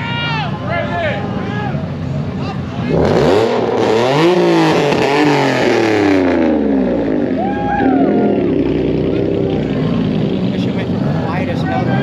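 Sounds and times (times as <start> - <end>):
car engine revving: 1.2 - 12.0.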